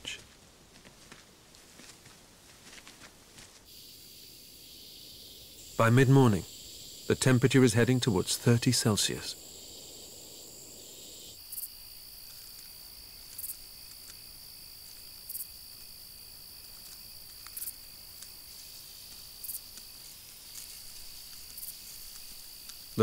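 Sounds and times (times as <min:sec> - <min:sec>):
insects trilling: 0:03.6 - 0:23.0.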